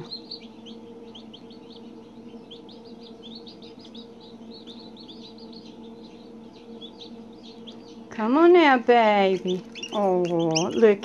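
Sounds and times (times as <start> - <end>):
chicks peeping: 0.0 - 11.0
low hum: 0.0 - 11.0.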